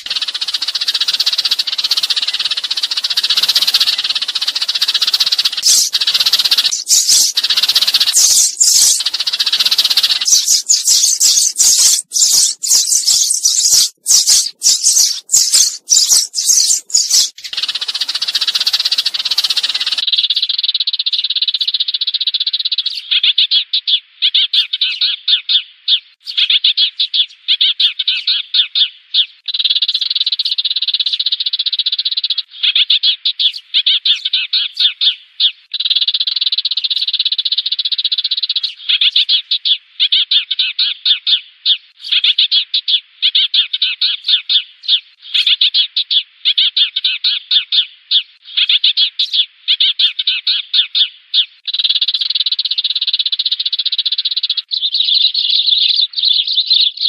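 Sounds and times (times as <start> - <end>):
sparrow chirping: 0.0 - 57.0.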